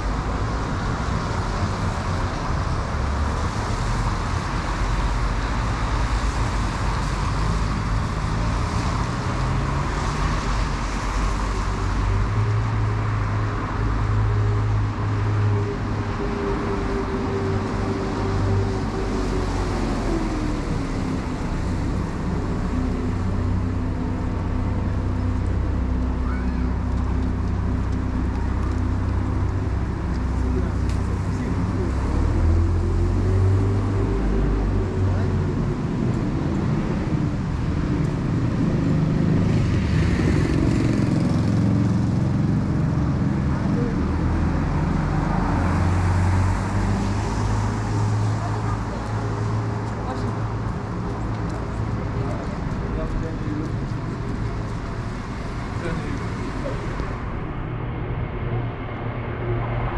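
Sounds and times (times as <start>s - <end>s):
cars passing on wet road: 0.0s - 59.9s.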